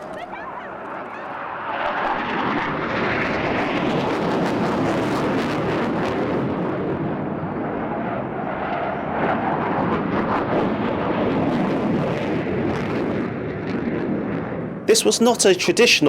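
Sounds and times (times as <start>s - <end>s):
jet aircraft rumble: 0.0s - 16.0s.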